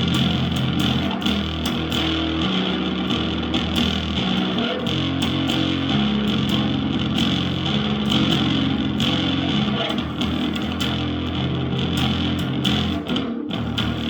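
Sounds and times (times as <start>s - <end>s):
bass guitar low notes: 0.0s - 14.0s.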